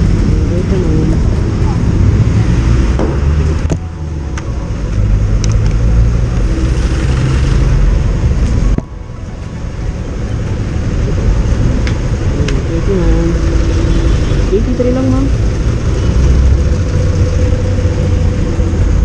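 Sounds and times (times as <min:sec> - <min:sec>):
motorcycle engine rumble: 0:00.0 - 0:19.0
road noise: 0:00.0 - 0:19.0.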